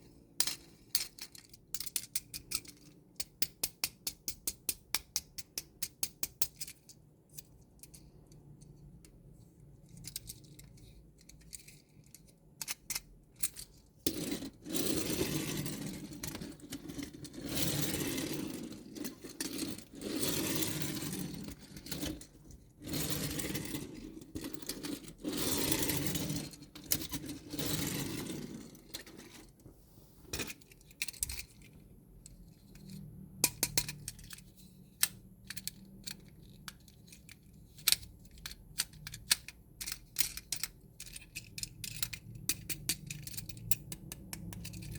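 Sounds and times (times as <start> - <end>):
toy parts clinking and tapping: 0.3 - 9.2, 9.8 - 22.7, 30.3 - 44.9.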